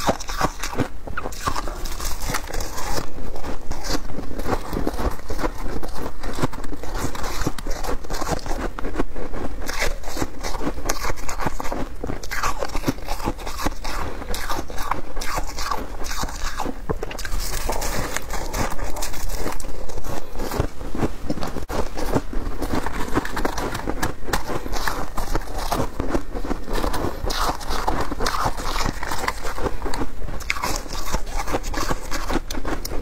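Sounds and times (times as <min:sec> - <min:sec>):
crunching and chewing shaved ice: 0:00.0 - 0:33.0.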